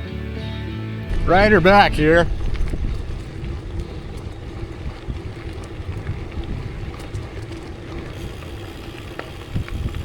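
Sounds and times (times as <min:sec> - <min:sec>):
bicycle tyre rumble: 0:01.1 - 0:10.0
wind noise on microphone: 0:01.1 - 0:10.0.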